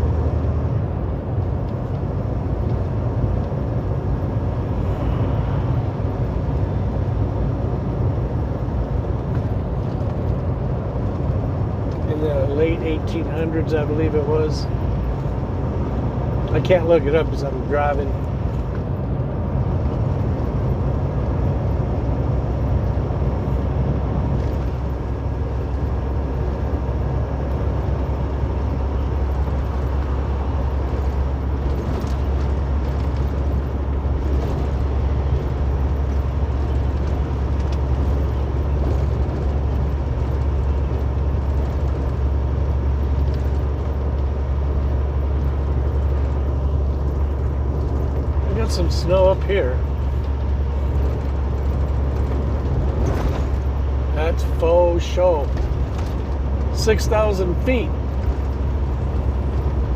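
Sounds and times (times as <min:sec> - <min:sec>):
road and engine rumble in vehicle: 0:00.0 - 0:59.9.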